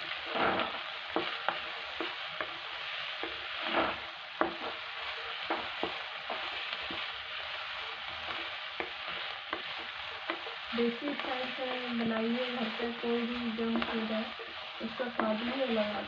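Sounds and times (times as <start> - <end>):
vegetables sizzling in hot oil: 0.0 - 16.0
wooden spatula scraping pan: 0.1 - 16.0.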